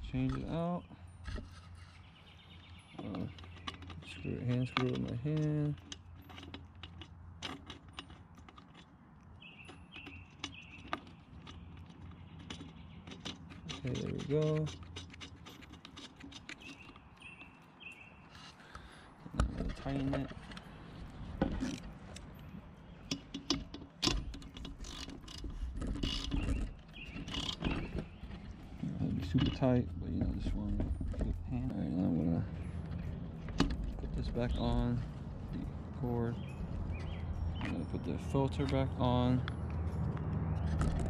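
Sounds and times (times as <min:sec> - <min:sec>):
light metallic clicks and knocks: 0:02.4 - 0:17.7, 0:19.3 - 0:41.0.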